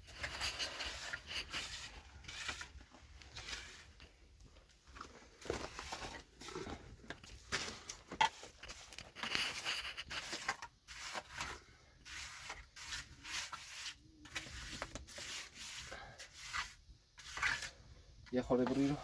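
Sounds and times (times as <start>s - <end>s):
tool scraping wet cement: 0.1s - 4.2s, 7.6s - 19.0s.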